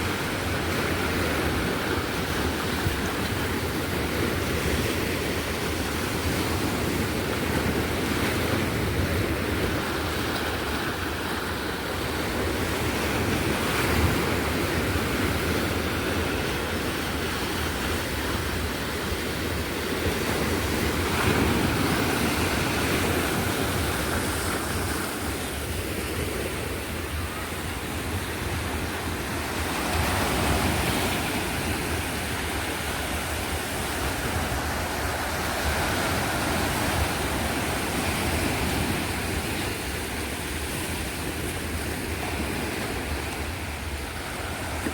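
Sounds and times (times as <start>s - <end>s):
sea surf washing on shore: 0.0s - 44.9s.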